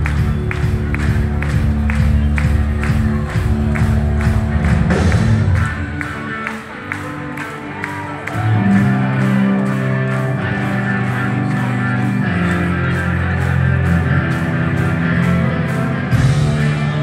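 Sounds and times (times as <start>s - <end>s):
loud rock band playing: 0.0s - 17.0s.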